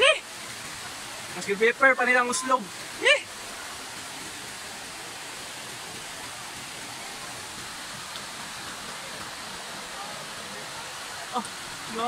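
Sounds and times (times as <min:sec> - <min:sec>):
river water rushing over boulders: 0:00.0 - 0:12.0.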